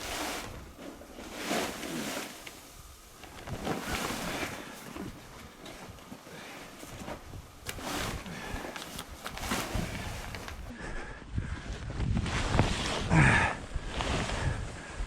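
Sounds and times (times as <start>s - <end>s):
canvas tent cover rustling: 0.0s - 10.8s, 11.9s - 15.0s.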